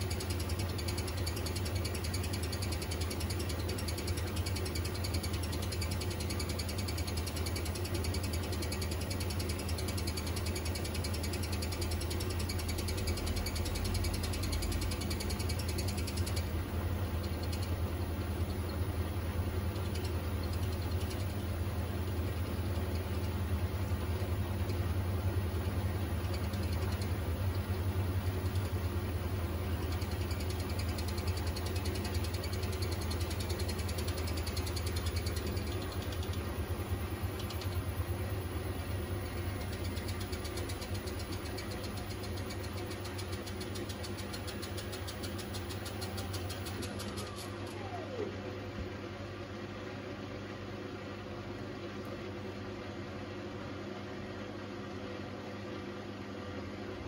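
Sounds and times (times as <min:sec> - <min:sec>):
washer-dryer drum spinning: 0:00.0 - 0:49.0.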